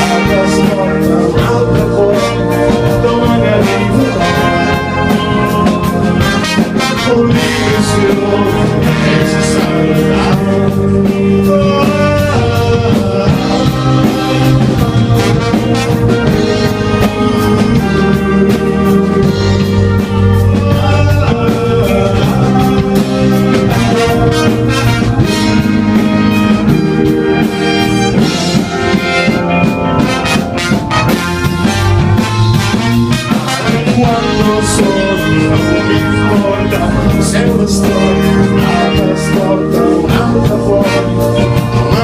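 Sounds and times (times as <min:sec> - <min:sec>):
live rock band with brass: 0:00.0 - 0:42.0.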